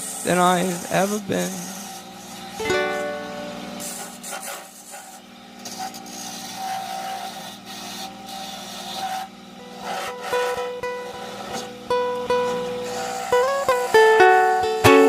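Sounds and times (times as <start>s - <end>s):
tool rasping on spinning wood: 0.0s - 3.1s, 3.8s - 11.8s, 12.4s - 14.6s.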